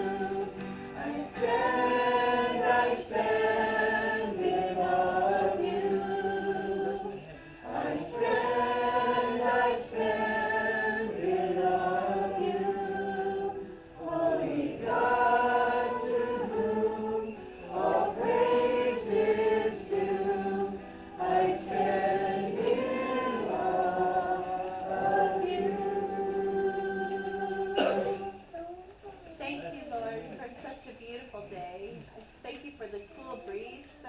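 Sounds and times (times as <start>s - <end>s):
congregation singing: 0.0s - 28.6s.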